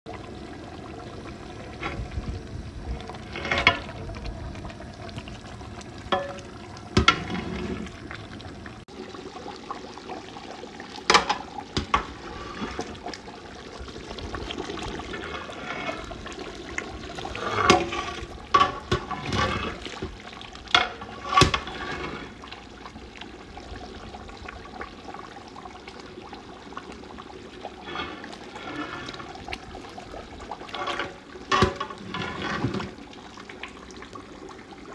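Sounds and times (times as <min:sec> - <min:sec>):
curry sloshing and bubbling: 0:00.1 - 0:34.9.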